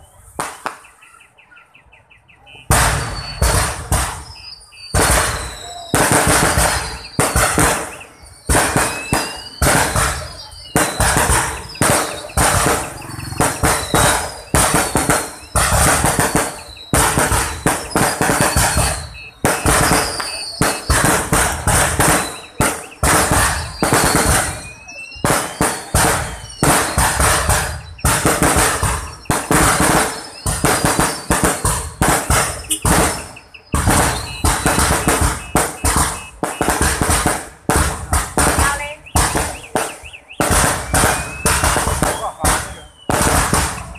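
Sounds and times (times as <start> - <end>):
fireworks bangs: 0.0 - 1.2, 2.4 - 43.9
fireworks whistles: 0.0 - 1.4, 2.4 - 43.9.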